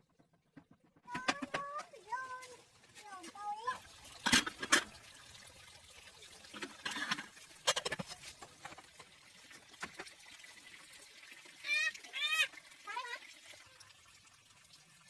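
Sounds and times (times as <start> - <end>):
water pouring and splashing: 1.1 - 15.0.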